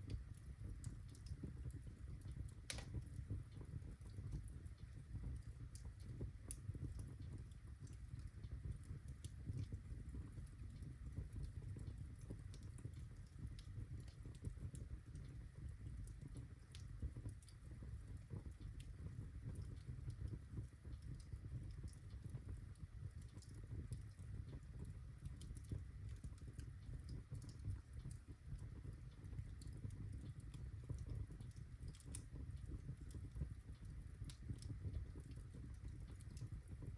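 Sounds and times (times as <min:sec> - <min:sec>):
fire crackling and popping: 0:00.0 - 0:36.9
low fire rumble: 0:00.0 - 0:36.9.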